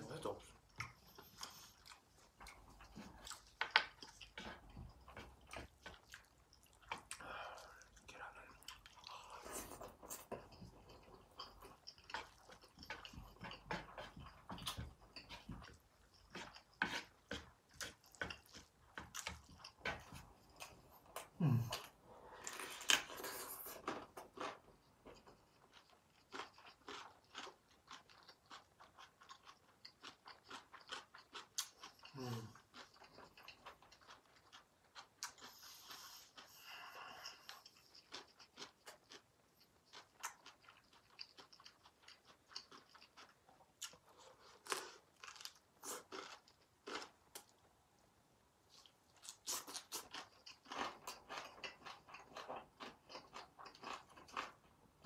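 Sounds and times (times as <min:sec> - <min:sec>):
chewing and mouth clicks: 0:00.4 - 0:47.6, 0:48.7 - 0:55.0.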